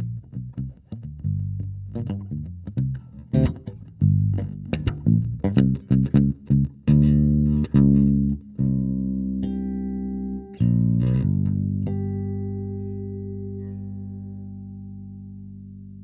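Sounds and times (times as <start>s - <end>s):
electric bass guitar notes: 0.0s - 16.0s.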